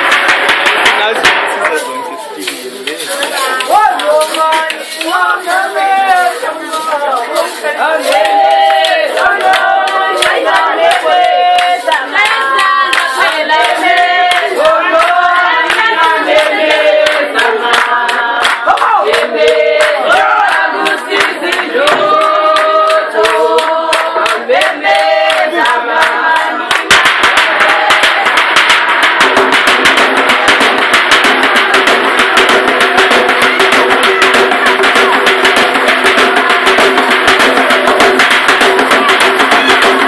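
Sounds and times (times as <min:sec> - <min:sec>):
group singing: 0:00.0 - 0:02.0, 0:03.0 - 0:40.0
drum beating: 0:00.0 - 0:40.0
rhythmic hand clapping: 0:00.0 - 0:40.0.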